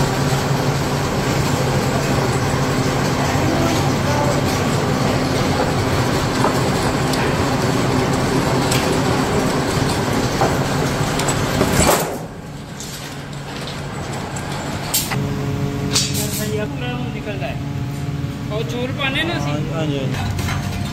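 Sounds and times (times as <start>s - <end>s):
motor and chain humming: 0.0s - 20.9s.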